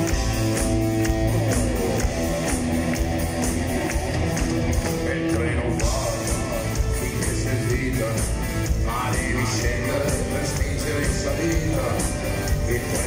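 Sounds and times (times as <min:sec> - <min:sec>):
drums keeping a beat: 0:00.0 - 0:13.0
electric guitar: 0:00.0 - 0:13.0
keyboards: 0:00.0 - 0:13.0.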